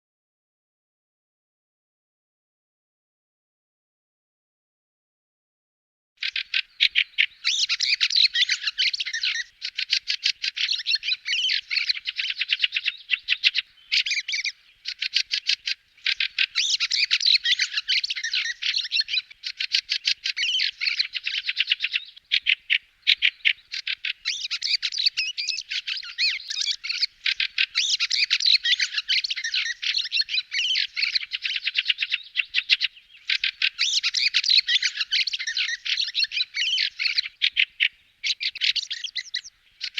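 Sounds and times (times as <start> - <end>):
birds giving harsh chattering calls: 6.2 - 39.9.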